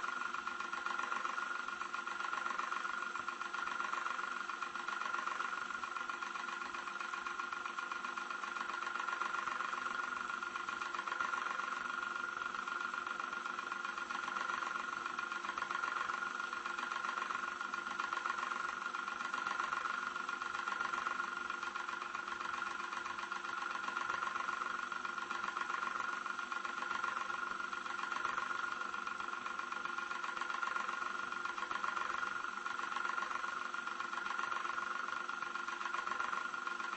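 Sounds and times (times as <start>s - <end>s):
electric fan whirring: 0.0s - 36.9s.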